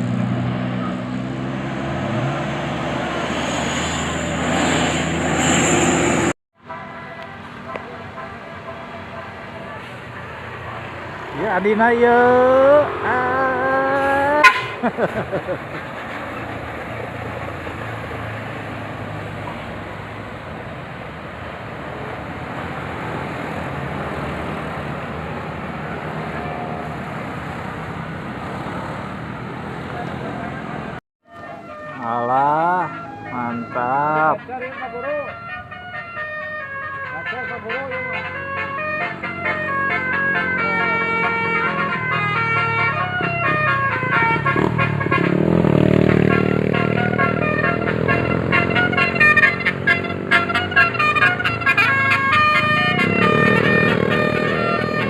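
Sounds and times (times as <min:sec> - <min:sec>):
bus diesel engine humming: 0:00.0 - 0:55.0
road noise rush: 0:00.0 - 0:55.0.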